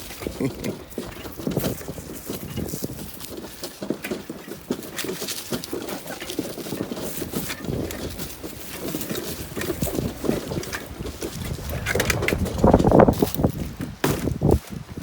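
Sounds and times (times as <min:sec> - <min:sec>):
trailer rattling over rough ground: 0:00.0 - 0:15.0.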